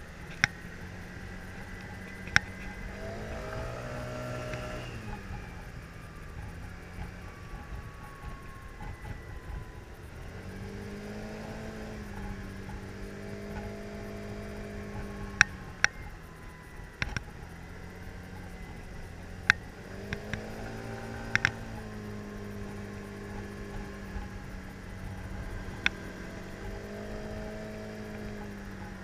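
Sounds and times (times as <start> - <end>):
scooter engine running: 0.0 - 29.0.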